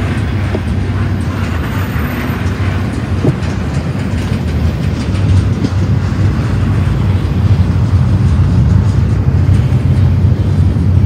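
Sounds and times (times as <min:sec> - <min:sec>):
low rumble of train wheels: 0:00.0 - 0:11.0.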